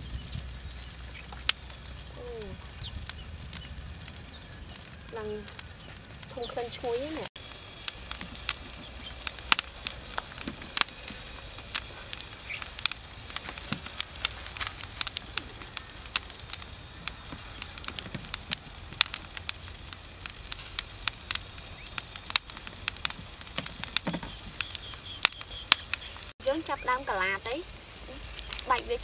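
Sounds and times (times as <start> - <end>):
roasting meat crackling and popping: 0.0 - 29.0.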